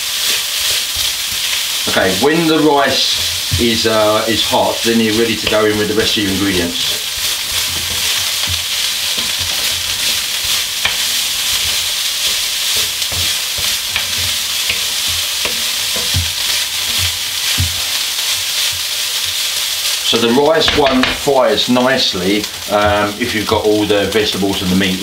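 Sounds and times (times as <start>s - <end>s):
rice sizzling in a wok: 0.0s - 25.0s
wooden spoon scraping: 0.2s - 21.6s.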